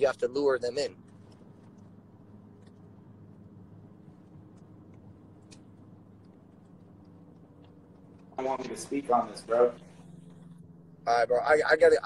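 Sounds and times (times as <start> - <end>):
car engine low hum: 0.0 - 12.0.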